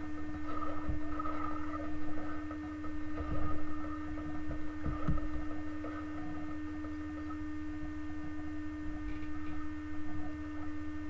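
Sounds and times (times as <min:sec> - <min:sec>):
low uneven rumble: 0:00.0 - 0:11.0
steady electrical hum: 0:00.0 - 0:11.0.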